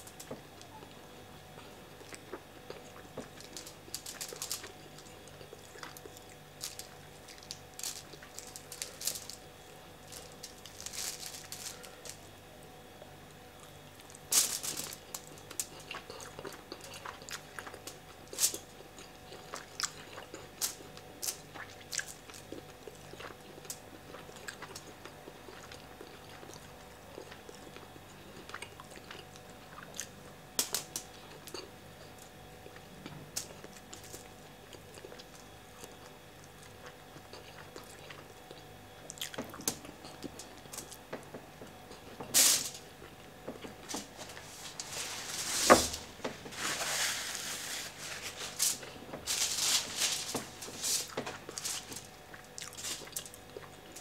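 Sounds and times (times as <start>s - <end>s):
man chewing food: 0.0s - 30.4s, 31.0s - 45.1s, 48.4s - 49.3s, 50.3s - 54.0s.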